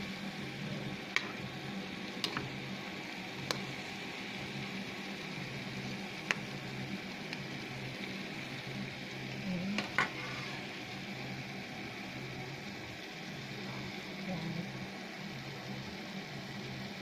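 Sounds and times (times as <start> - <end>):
chicken sizzling in a pan: 0.0 - 17.0
steady low hum: 0.0 - 17.0.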